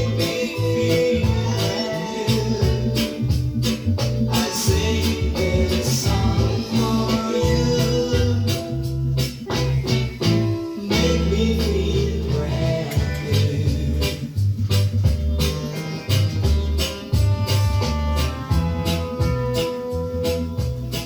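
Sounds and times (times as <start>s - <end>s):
reggae music with heavy bass: 0.0s - 21.0s.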